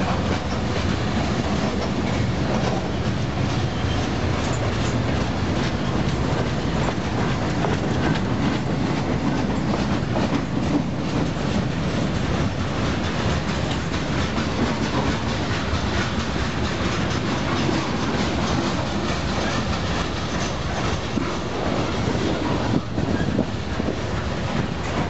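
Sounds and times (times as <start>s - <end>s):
steel wheels rumbling on rails: 0.0s - 25.0s
train cars clicking and clattering: 0.0s - 25.0s.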